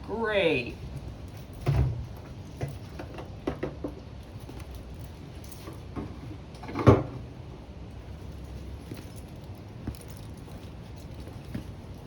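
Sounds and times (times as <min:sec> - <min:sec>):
tools and small parts clattering: 0:01.0 - 0:07.2, 0:08.2 - 0:12.0.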